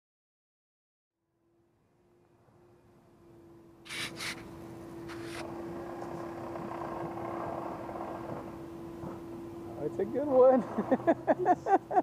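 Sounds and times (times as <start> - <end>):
faint outdoor ambience: 1.2 - 12.0
steady low hum: 1.3 - 12.0.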